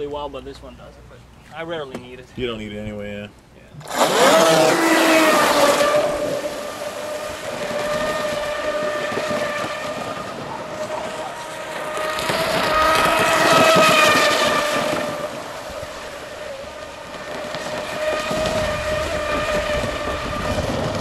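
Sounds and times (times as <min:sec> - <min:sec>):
electric motor high whine: 0:03.8 - 0:21.0.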